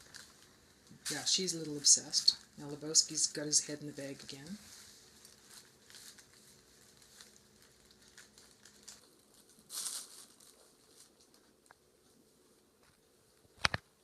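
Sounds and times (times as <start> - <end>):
bag rustling and crinkling: 0.0 - 11.8.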